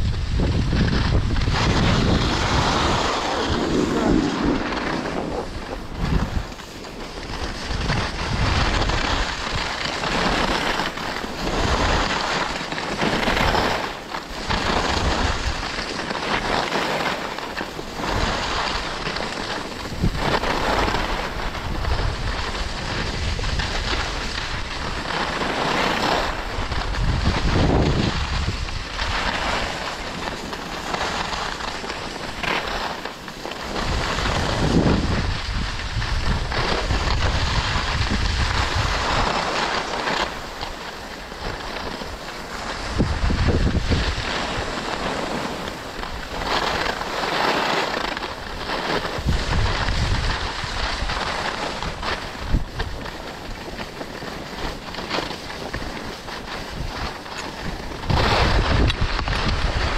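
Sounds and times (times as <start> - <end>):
wind buffeting microphone: 0.0 - 12.2, 17.7 - 59.9
skis scraping on snow: 0.0 - 59.9.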